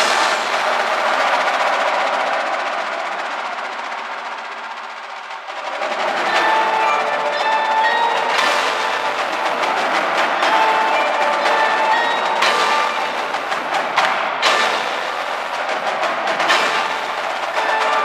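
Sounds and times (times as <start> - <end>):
drumline playing: 0.0 - 18.0.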